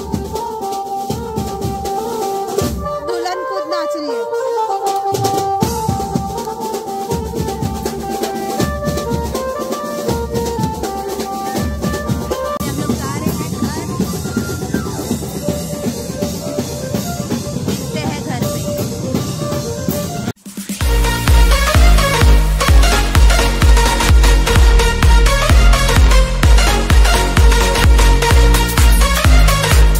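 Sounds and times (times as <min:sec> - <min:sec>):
steady drum beat: 0:00.0 - 0:03.3, 0:04.8 - 0:29.9.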